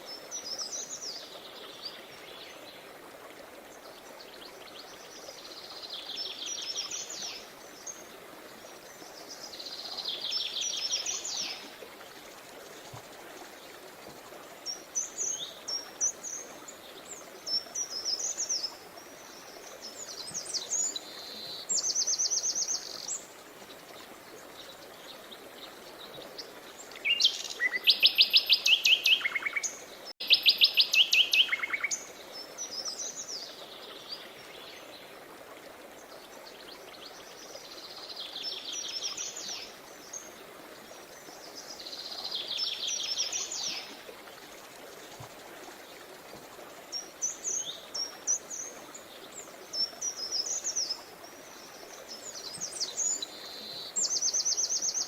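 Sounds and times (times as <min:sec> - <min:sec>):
running river water: 0:00.0 - 0:55.0.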